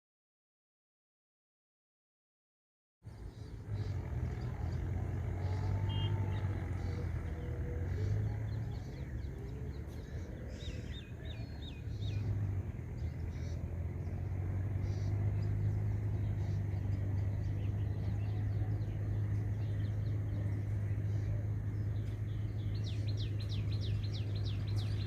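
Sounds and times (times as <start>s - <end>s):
birds chirping: 3.1s - 25.0s
steady low hum: 3.1s - 25.0s.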